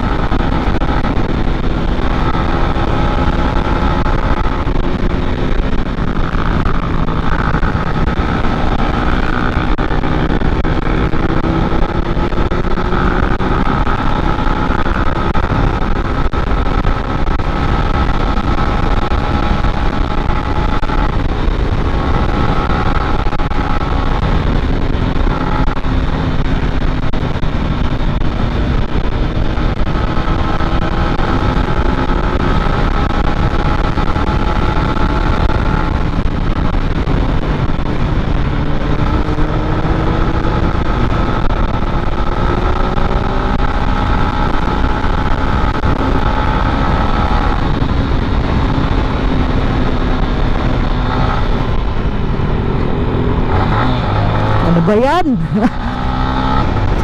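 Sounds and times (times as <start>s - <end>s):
motorcycle engine at full throttle: 0.0s - 57.0s
wind rushing: 0.0s - 57.0s.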